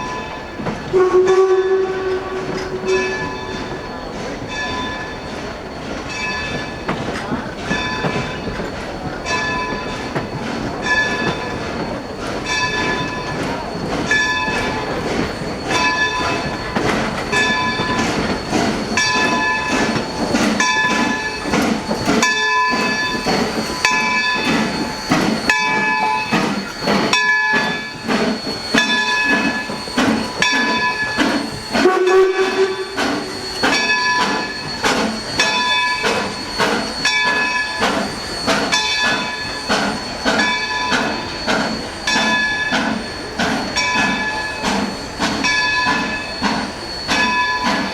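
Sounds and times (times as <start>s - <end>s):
locomotive bell ringing: 0.0s - 47.9s
rumble of moving train: 0.0s - 47.9s
rising squeal: 1.9s - 47.9s.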